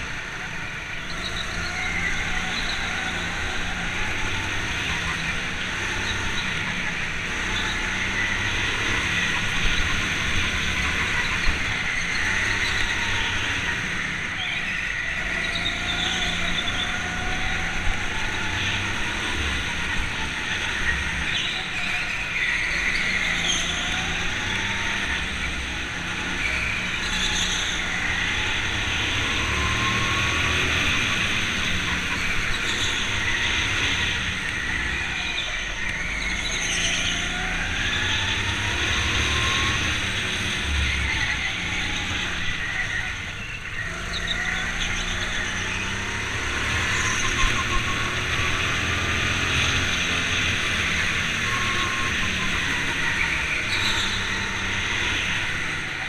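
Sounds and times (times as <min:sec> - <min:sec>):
go-kart motor running: 0:00.0 - 0:56.0.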